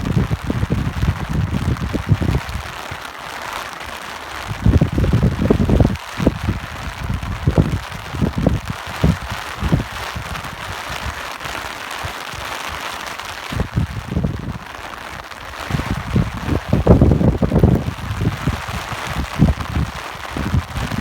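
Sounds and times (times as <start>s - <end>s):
rain hissing: 0.0s - 21.0s
wind gusts: 0.0s - 21.0s.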